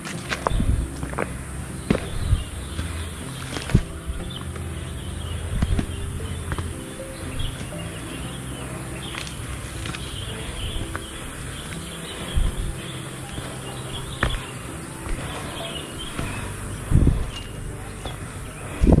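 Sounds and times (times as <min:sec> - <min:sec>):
birds chirping: 0:00.0 - 0:19.0
insects chirping: 0:00.0 - 0:19.0
short low thumps: 0:00.0 - 0:19.0
steady background hiss: 0:00.0 - 0:19.0.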